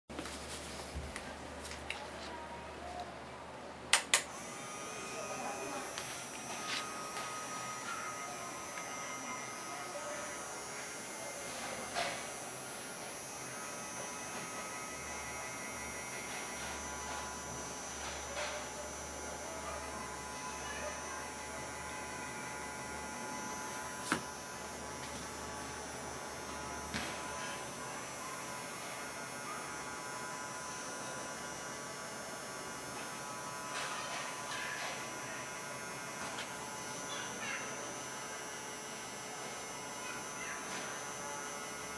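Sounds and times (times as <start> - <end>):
electric motor humming: 4.2 - 41.9.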